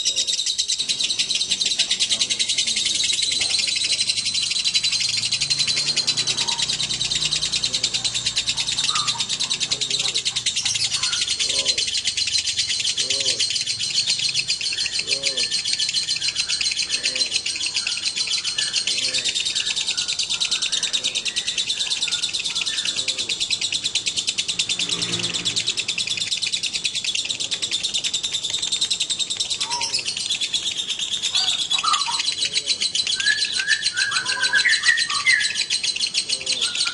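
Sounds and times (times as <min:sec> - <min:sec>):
lovebird chirps: 0:00.0 - 0:36.9
lovebirds trilling: 0:00.0 - 0:36.9.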